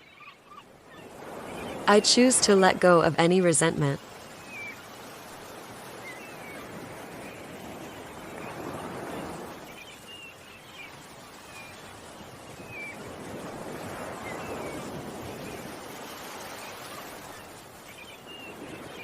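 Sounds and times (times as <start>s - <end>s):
ocean waves washing ashore: 0.0s - 19.0s.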